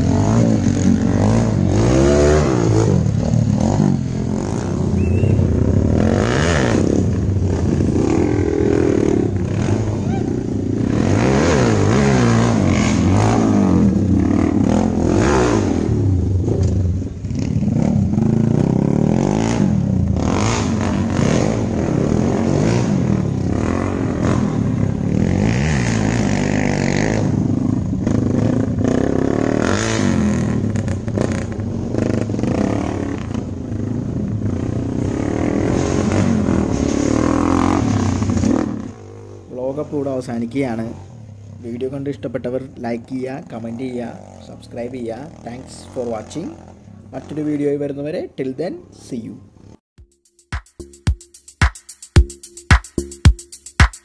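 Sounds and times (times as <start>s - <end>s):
motorcycle engines revving: 0.0s - 49.8s.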